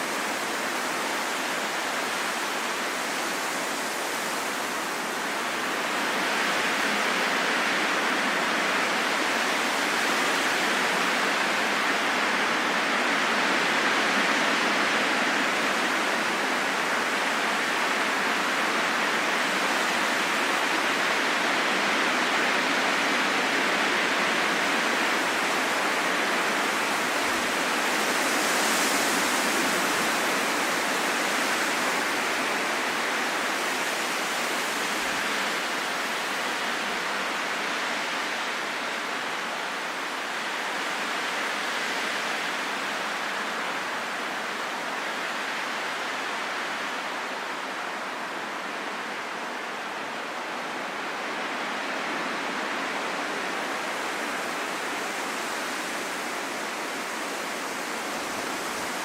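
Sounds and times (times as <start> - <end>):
rushing wind: 0.0 - 59.0.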